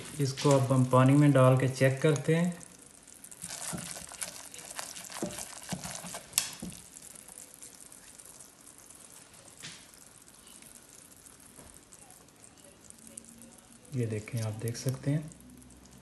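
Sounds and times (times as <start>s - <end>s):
caramel sizzling and crackling: 0.0s - 16.0s.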